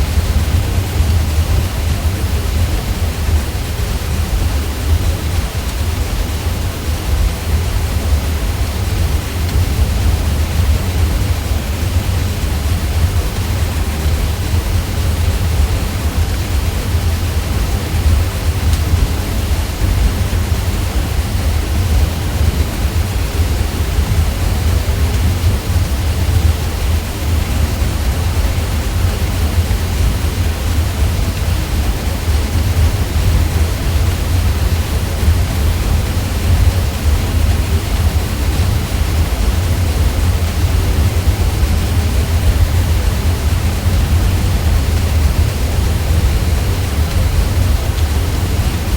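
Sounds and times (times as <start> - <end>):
ceiling fan humming: 0.0 - 48.9.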